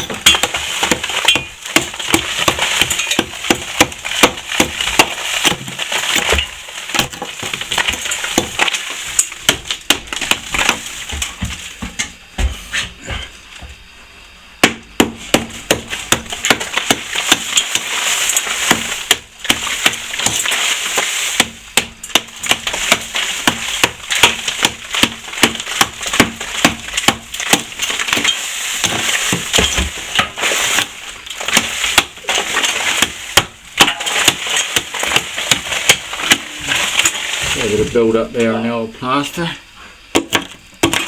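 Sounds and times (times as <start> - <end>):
plaster knocks and cracks: 0.0 - 12.5, 14.6 - 37.6, 40.1 - 41.0.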